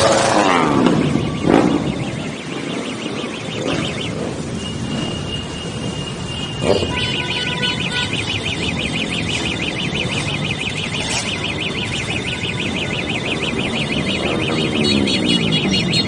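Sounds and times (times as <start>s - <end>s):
motorcycle road and wind noise: 0.0s - 16.0s
warbling electronic alarm tone: 0.0s - 16.0s.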